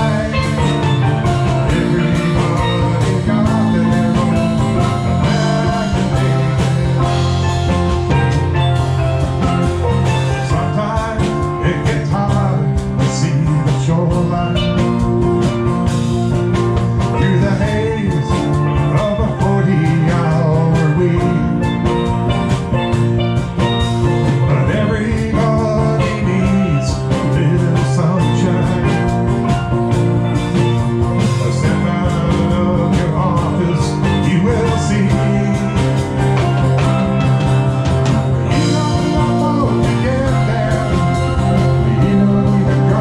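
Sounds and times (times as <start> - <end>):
live country-rock band: 0.0 - 43.0
prominent bass line: 0.0 - 43.0.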